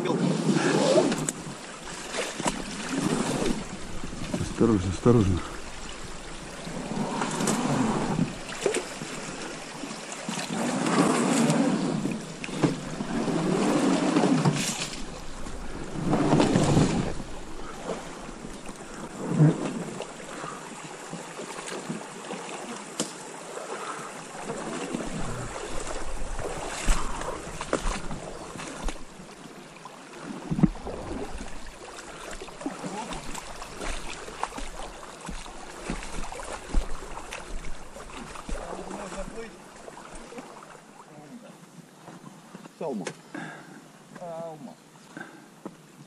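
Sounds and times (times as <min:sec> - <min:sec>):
rubber hull scraping over branches: 0:00.0 - 0:21.2, 0:23.8 - 0:29.3, 0:30.3 - 0:40.8
water splashing: 0:00.0 - 0:41.4.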